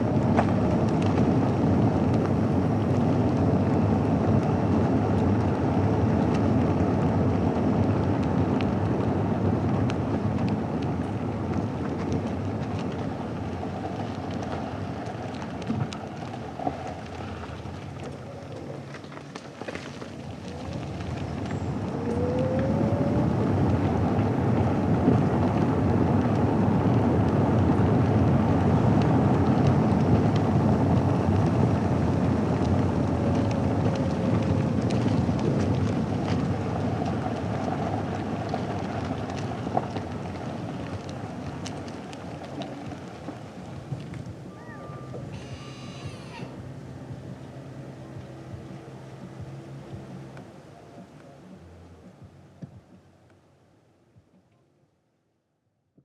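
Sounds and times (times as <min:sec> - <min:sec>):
tyres rolling over gravel: 0:00.0 - 0:52.6.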